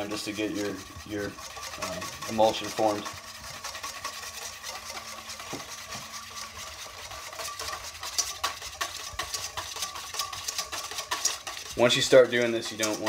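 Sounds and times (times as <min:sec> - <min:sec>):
whisk scraping metal bowl: 0:00.0 - 0:13.0.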